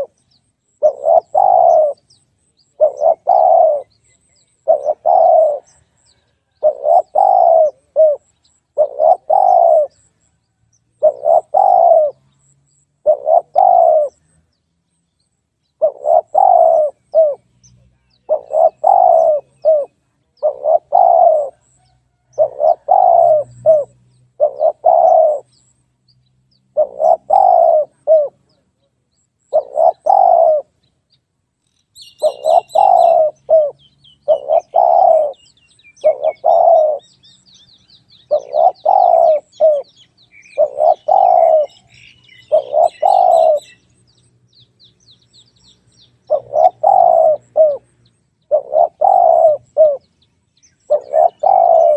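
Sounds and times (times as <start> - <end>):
dove cooing: 0.0 - 0.2, 0.8 - 10.2, 11.0 - 14.4, 15.8 - 17.5, 18.2 - 25.6, 26.7 - 28.7, 29.5 - 30.7, 32.0 - 43.8, 46.2 - 50.1, 50.9 - 51.9
small birds chirping: 0.0 - 51.9.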